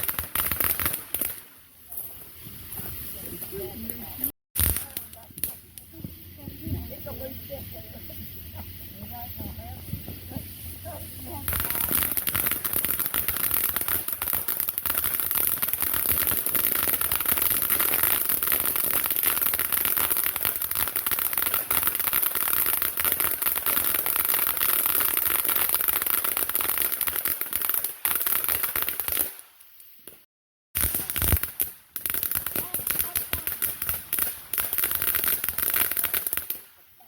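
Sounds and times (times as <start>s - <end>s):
fireworks crackling pops: 0.0s - 37.0s.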